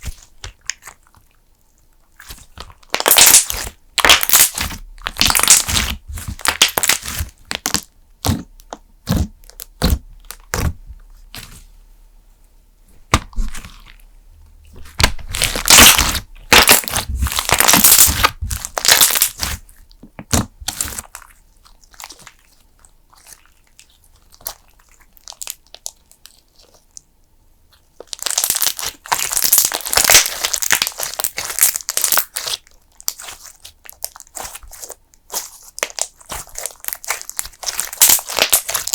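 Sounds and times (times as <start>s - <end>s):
slime squished by hands: 0.0s - 11.6s, 13.0s - 14.1s, 14.7s - 27.0s, 27.7s - 38.9s.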